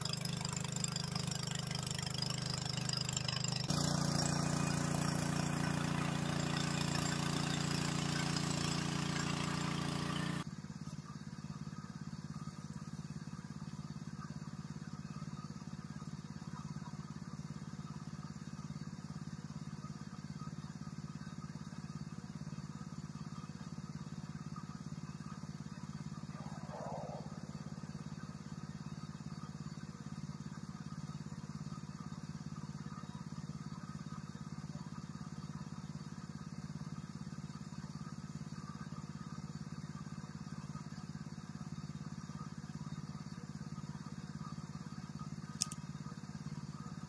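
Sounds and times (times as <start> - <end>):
mini dumper engine idling: 0.0 - 26.4, 27.2 - 47.0.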